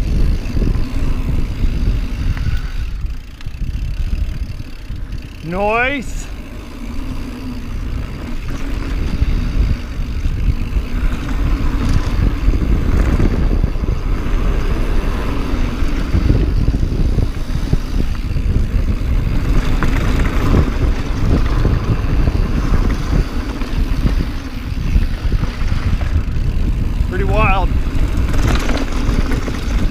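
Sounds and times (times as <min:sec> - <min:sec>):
bike rattling over rocks: 0:00.0 - 0:29.9
wind buffeting microphone: 0:00.0 - 0:29.9.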